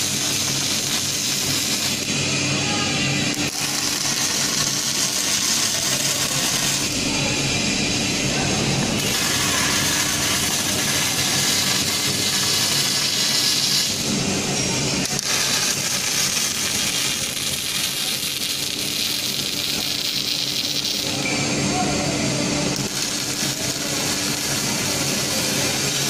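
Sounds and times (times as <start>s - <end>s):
welding arc hissing crackle: 0.0s - 7.6s, 8.8s - 21.3s, 22.7s - 26.0s.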